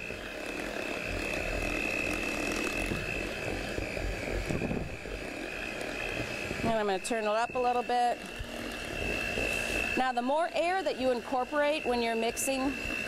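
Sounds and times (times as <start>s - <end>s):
beaters churning batter: 0.0s - 13.0s
hand mixer motor whine: 0.0s - 13.0s.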